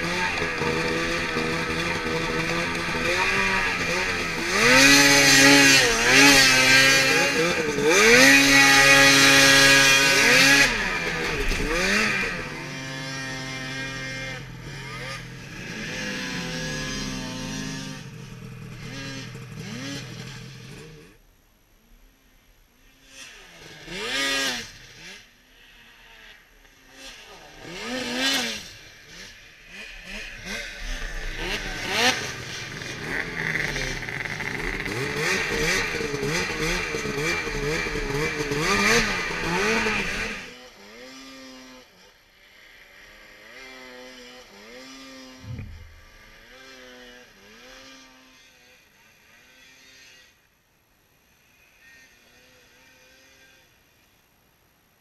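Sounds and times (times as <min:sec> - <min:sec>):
snowmobile engines revving: 0:00.0 - 0:21.1, 0:23.0 - 0:41.9, 0:42.5 - 0:50.3
snowmobile passing close: 0:00.0 - 0:21.2, 0:22.9 - 0:50.4.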